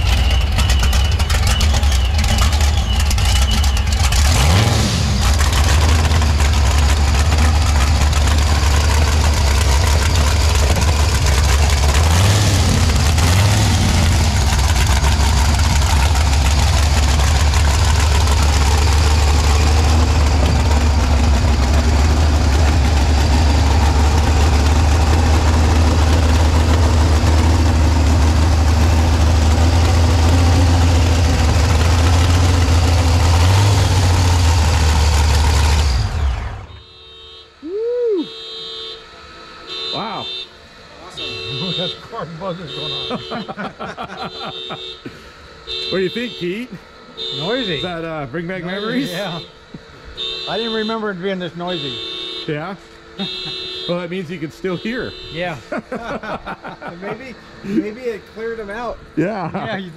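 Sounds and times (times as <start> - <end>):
engine idling loudly: 0.0 - 59.9.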